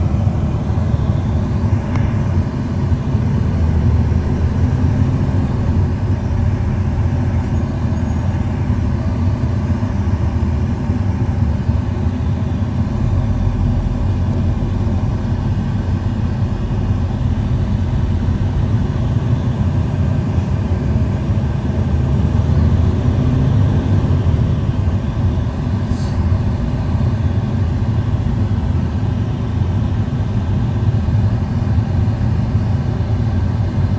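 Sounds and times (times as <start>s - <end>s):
moving vehicle rumble: 0.0s - 33.9s.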